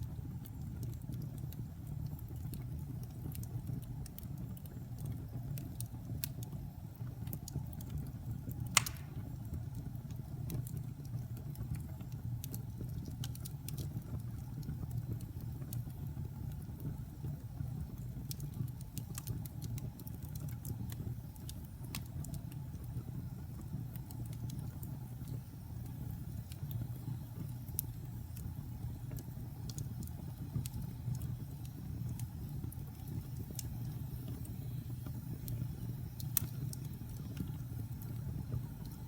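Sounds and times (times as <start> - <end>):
wood fire burning: 0.0 - 39.0.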